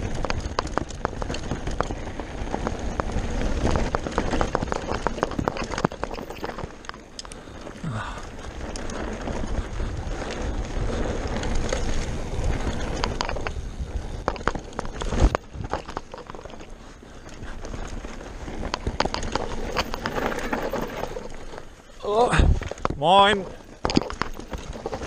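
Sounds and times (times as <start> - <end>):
bike rattling and clicking: 0.0 - 25.0
tyres on dirt and stones: 0.0 - 25.0.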